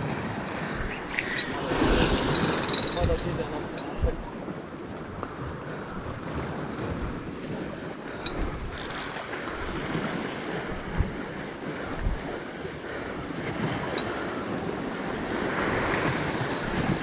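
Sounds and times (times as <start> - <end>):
sea waves washing against rocks: 0.0 - 17.0
wind buffeting microphone: 0.0 - 17.0.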